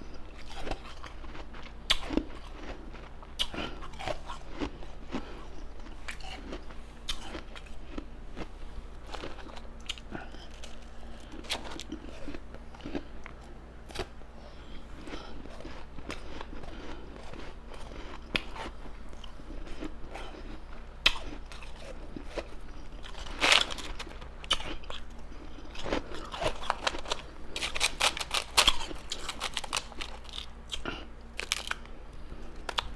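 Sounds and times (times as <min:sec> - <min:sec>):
ice being chewed and crunched: 0:00.0 - 0:32.9.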